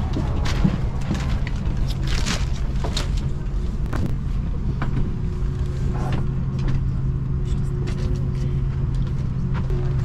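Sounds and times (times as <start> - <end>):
cabin ventilation hum: 0.0 - 10.0.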